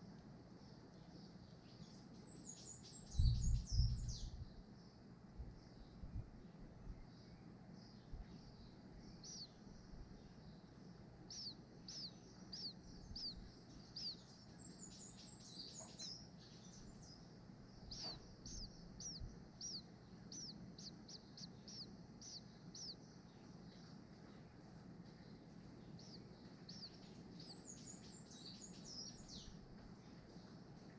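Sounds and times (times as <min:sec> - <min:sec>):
small bird chirping: 0:00.6 - 0:30.9.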